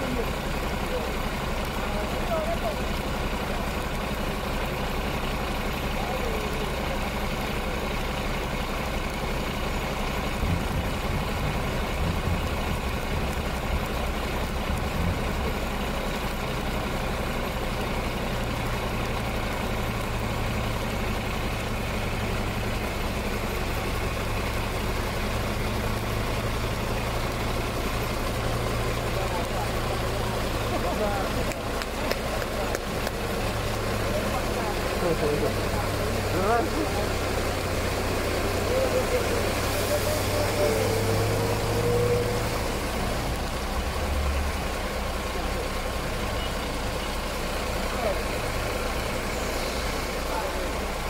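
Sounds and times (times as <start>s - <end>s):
constant hiss: 0.0s - 51.0s
heavy vehicle engine running: 0.0s - 51.0s
low rumbles: 0.0s - 51.0s.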